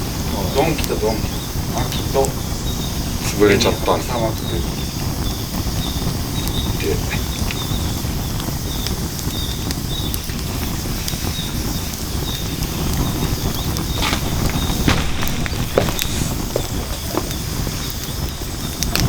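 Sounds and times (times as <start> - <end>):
low rumble of fire: 0.0 - 19.0
wood fire crackling and popping: 0.0 - 19.0.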